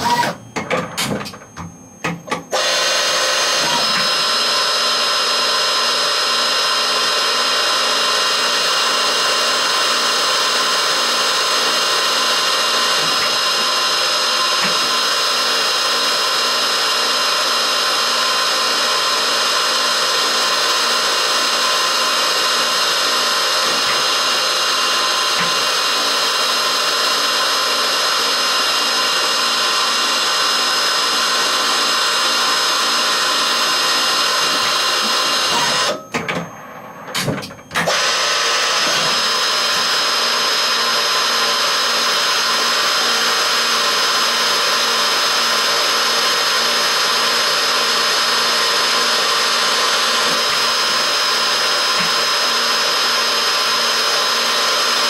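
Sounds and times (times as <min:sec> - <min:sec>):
lathe spindle whirring with whine: 0:01.5 - 0:37.2, 0:37.8 - 0:55.0.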